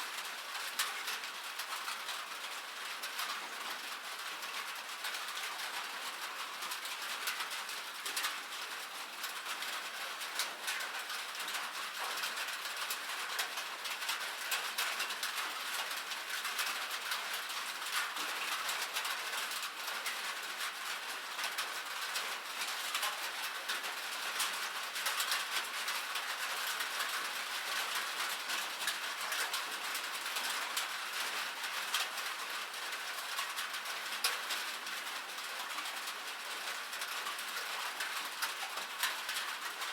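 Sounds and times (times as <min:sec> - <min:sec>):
rain pattering on roof: 0:00.0 - 0:39.9.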